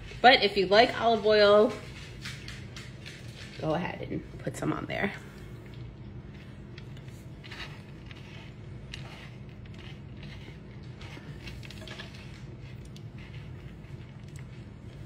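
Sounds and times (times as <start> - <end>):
low steady hum: 0.0 - 15.0
soft scrapes and crackles of nuts: 0.0 - 15.0.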